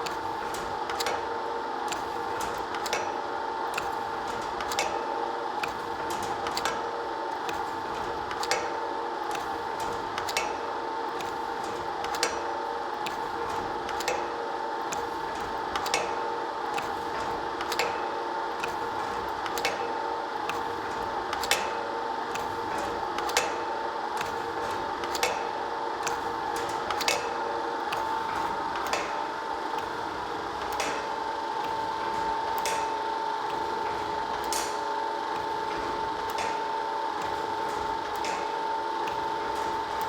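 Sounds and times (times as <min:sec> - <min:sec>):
machine clicking: 0:00.0 - 0:30.0, 0:30.6 - 0:40.0.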